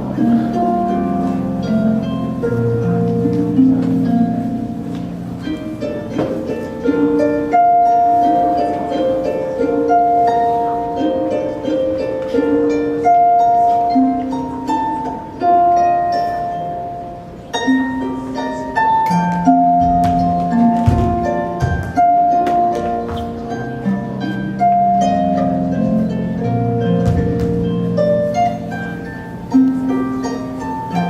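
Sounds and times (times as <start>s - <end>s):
plucked string instrument melody: 0.0s - 31.0s.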